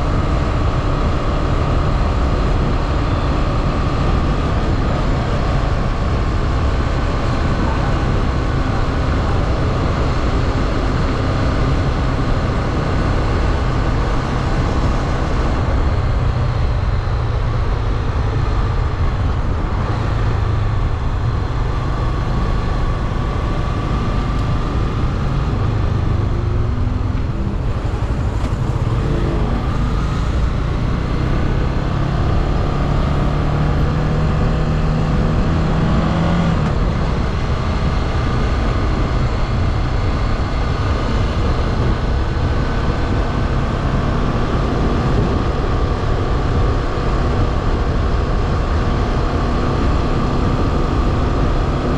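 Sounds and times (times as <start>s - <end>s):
motorcycle engine running: 0.0s - 51.9s
wind and road noise: 0.0s - 51.9s.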